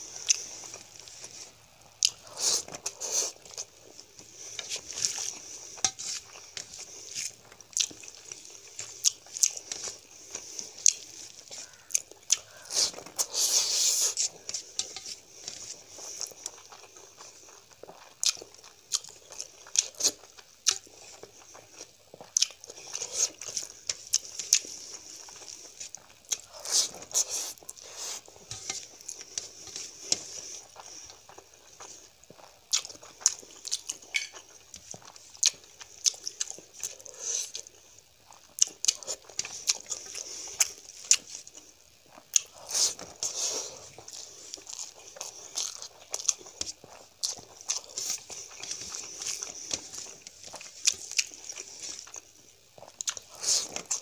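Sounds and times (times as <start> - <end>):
wet chewing and lip-smacking: 2.0 - 54.0.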